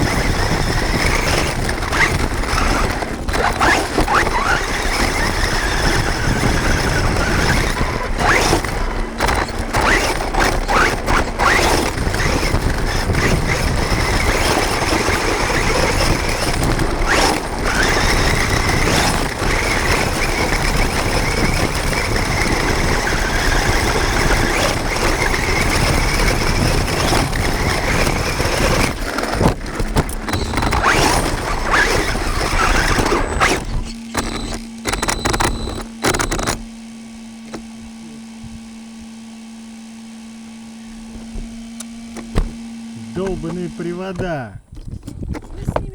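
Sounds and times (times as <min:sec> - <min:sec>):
toy truck motor whining: 0:00.0 - 0:45.9.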